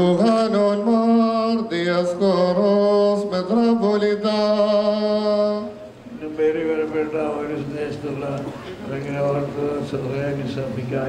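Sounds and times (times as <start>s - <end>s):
male chant: 0.0s - 11.0s.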